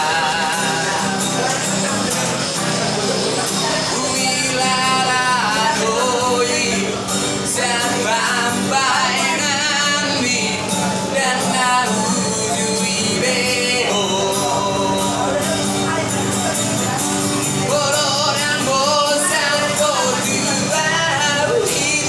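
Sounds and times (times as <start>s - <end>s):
instrumental accompaniment: 0.0s - 22.0s
person singing with vibrato: 0.0s - 22.0s.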